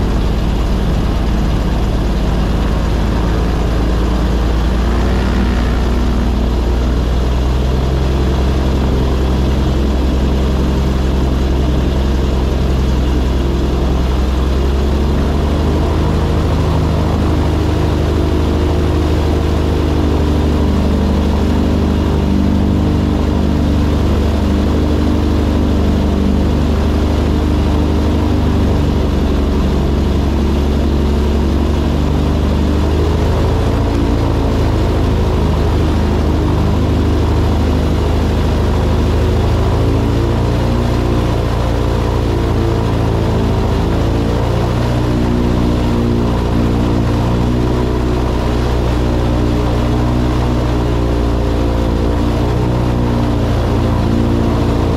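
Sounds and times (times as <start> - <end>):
airboat engine and propeller drone: 0.0 - 54.9.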